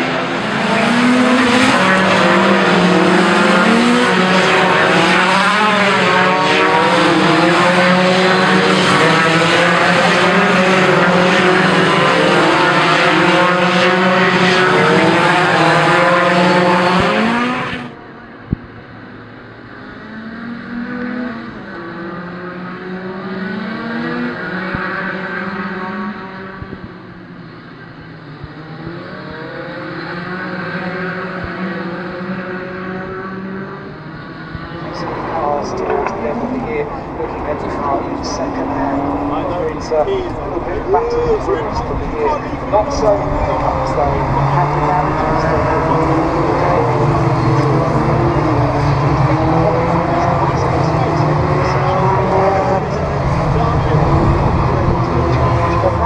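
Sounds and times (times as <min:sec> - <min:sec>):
dull engine sound: 0:00.0 - 0:56.0
racing engines changing gear: 0:00.0 - 0:56.0.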